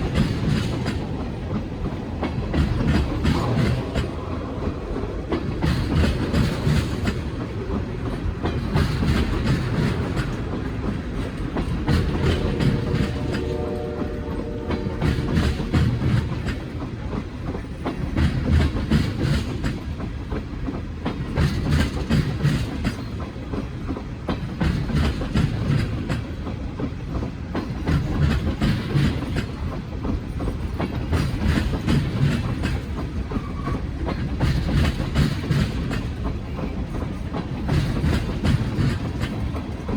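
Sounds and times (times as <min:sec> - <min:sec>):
freight train cars rolling past: 0:00.0 - 0:39.9
wheels clicking over rail joints: 0:00.0 - 0:39.9.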